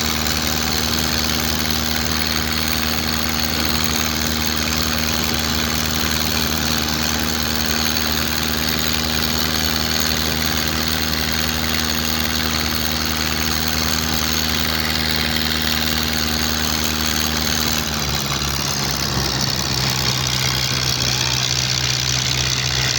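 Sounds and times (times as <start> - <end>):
boat engine running: 0.0 - 22.9.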